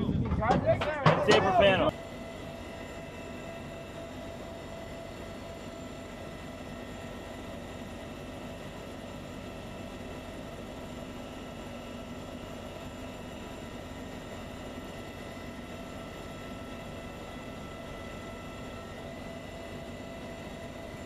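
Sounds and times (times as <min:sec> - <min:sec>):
helicopter engines and rotors droning: 0:00.0 - 0:21.0.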